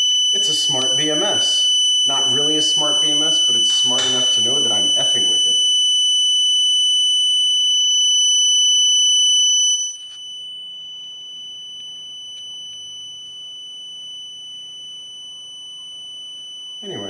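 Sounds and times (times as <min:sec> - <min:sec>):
high-pitched buzzer alarm tone: 0:00.0 - 0:17.0.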